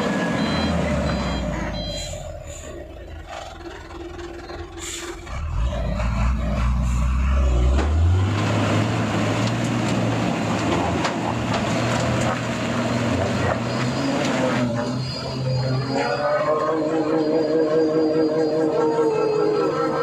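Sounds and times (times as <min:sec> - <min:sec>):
truck diesel engine working hard: 0:00.0 - 0:20.0.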